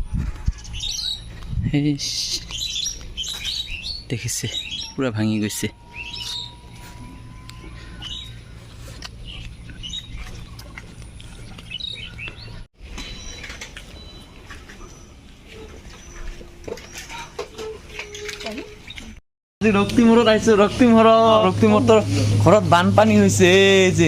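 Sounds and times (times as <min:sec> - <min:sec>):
low outdoor background: 0:00.0 - 0:24.0
birds chirping: 0:00.4 - 0:24.0.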